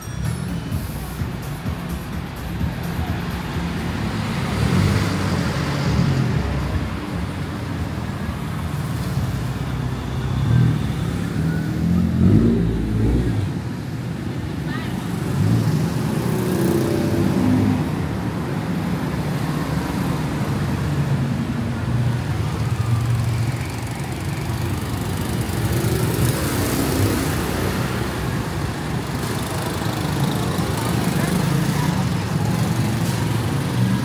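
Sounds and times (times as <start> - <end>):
vehicle engines passing: 0.0 - 34.0.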